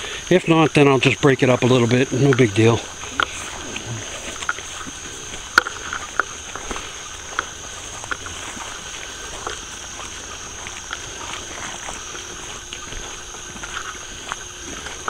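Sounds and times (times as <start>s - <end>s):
footsteps on dirt: 0.0s - 15.0s
night insects chorus: 0.0s - 15.0s.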